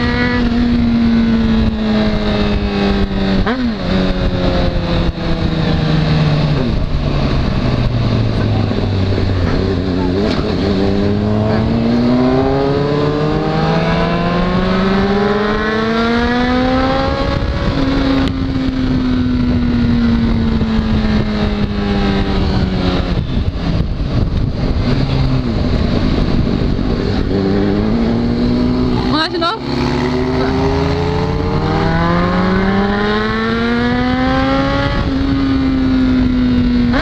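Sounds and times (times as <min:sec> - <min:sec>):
motorcycle engine revving: 0:00.0 - 0:37.0
wind rushing over microphone: 0:00.0 - 0:37.0.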